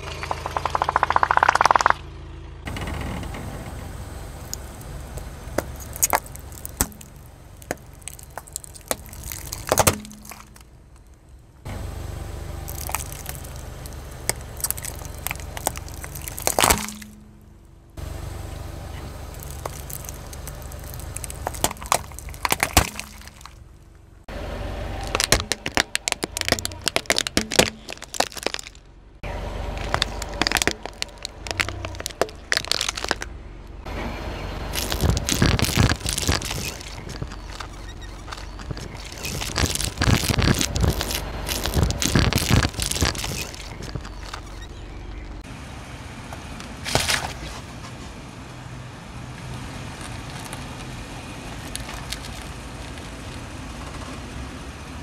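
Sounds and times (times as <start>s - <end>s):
car tyre crushing brittle objects: 4.2s - 33.8s, 34.6s - 45.4s, 46.8s - 47.7s, 49.5s - 54.2s.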